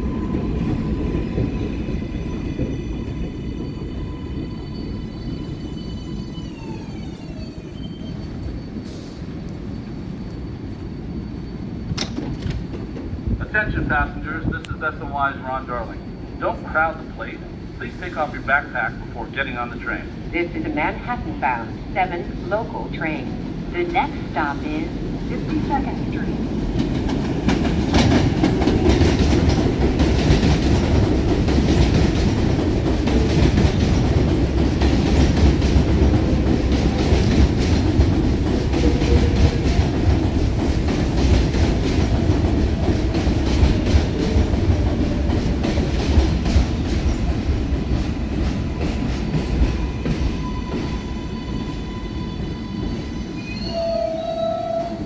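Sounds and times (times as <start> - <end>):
subway trains on elevated track: 0.0 - 55.0.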